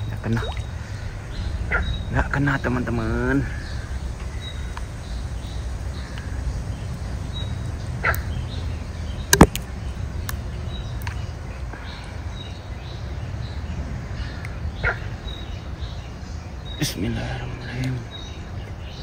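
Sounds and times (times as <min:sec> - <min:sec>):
faint bird calls: 0:00.0 - 0:19.0
steady low rumble: 0:00.0 - 0:19.0.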